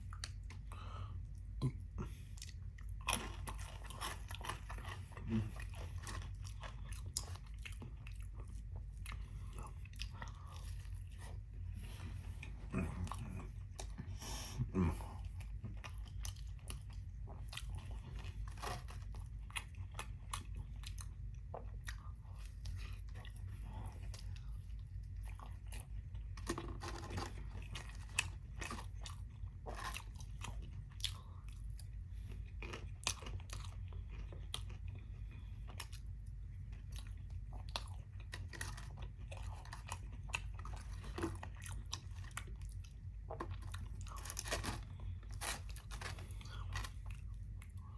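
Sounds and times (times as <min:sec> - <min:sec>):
chewing crunchy fried chicken: 0:00.0 - 0:47.9
steady low hum: 0:00.0 - 0:47.9.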